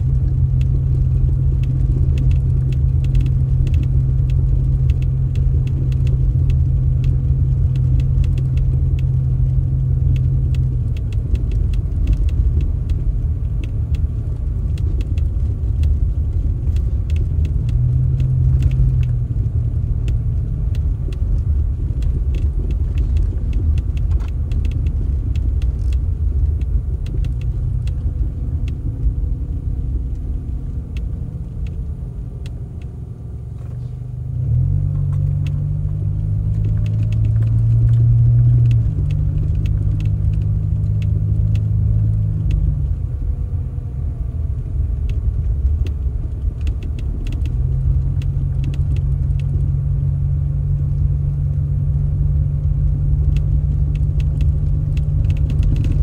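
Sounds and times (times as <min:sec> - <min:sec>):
light clicks and rattles: 0:00.0 - 0:56.0
motor vehicle engine rumbling: 0:00.0 - 0:56.0.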